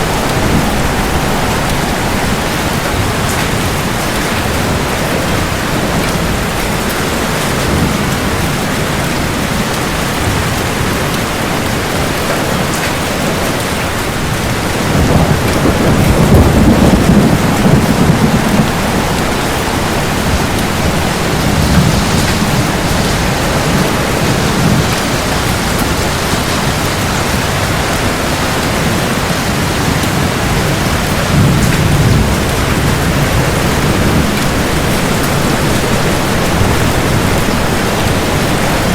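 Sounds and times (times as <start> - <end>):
steady rain falling: 0.0 - 38.9
thunder rumbling: 0.0 - 38.9.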